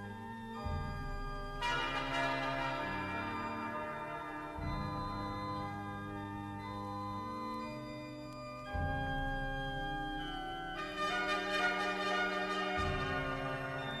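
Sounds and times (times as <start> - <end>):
organ playing held chords: 0.0 - 14.0.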